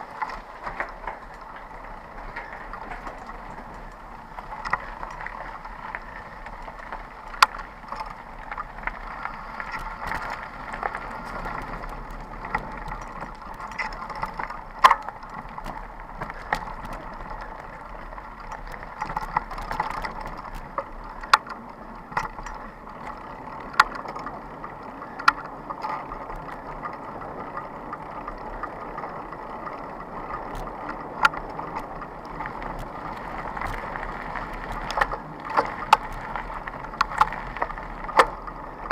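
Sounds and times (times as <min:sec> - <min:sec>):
bike tyres on gravel trail: 0:00.0 - 0:38.9
sharp clacks on bumps: 0:00.0 - 0:38.9.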